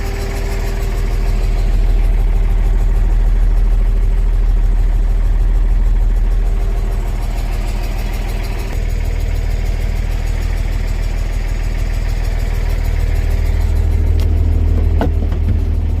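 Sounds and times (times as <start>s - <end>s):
diesel engine running at low revs: 0.0s - 16.0s.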